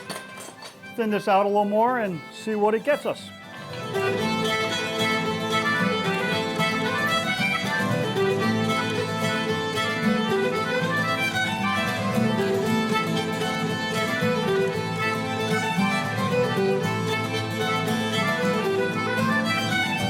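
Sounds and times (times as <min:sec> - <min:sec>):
lively fiddle tune: 0:00.7 - 0:20.0.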